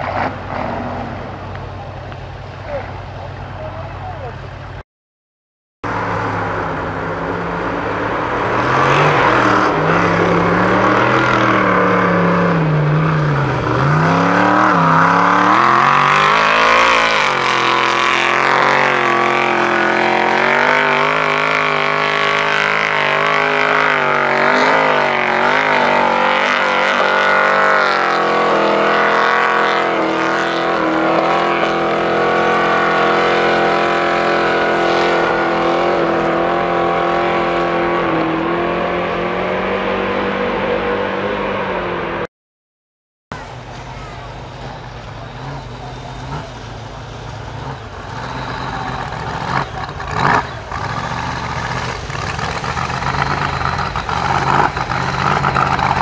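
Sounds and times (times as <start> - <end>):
engine revving under load: 5.8 - 42.3, 44.4 - 56.0.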